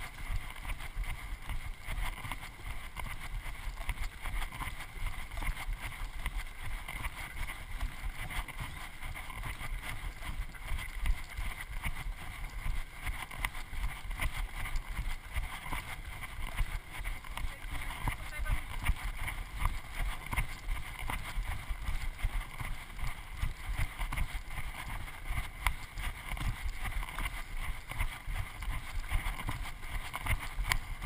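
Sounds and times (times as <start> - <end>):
footsteps crunching on gravel: 0.0 - 31.0
wind rumbling on microphone: 0.0 - 31.0.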